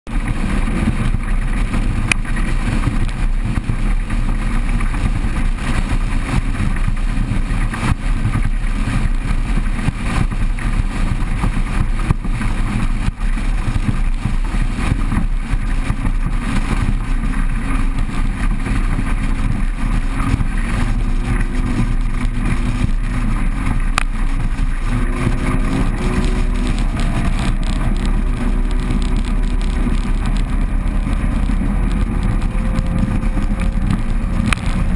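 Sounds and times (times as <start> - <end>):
outboard engine running hard: 0.1 - 34.9
rush of wind and water: 0.1 - 34.9.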